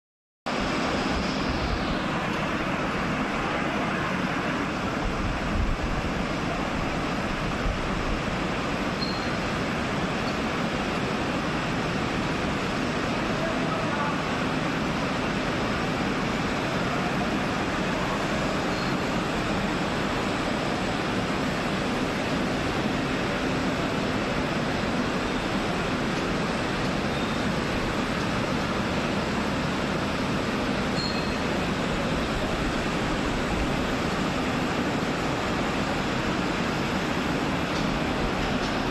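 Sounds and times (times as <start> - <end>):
production line machine noise: 0.5 - 38.9.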